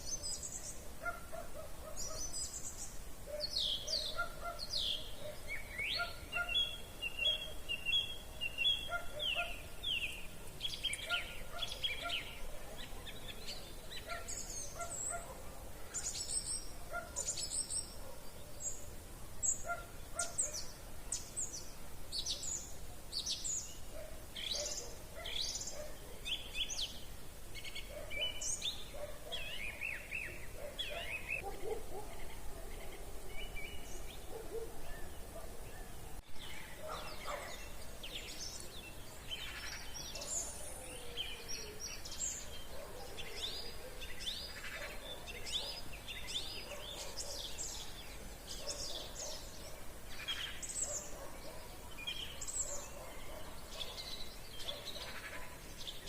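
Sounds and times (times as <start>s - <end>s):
low background noise: 0.0s - 56.0s
songbirds chirping and trilling: 0.0s - 56.0s.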